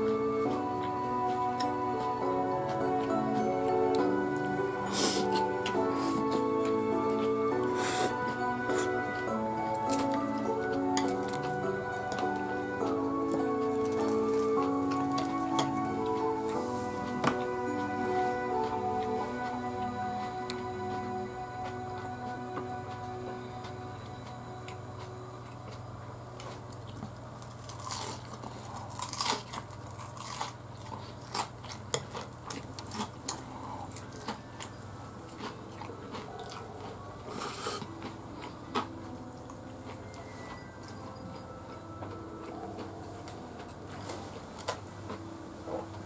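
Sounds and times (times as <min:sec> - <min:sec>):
person chewing crispy fried food: 0:00.0 - 0:46.0.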